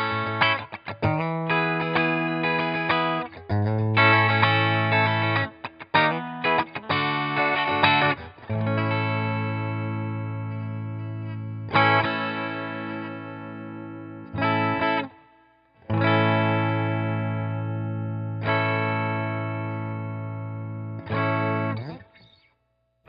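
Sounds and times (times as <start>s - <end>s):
electric guitar strumming chords: 0.0s - 22.4s.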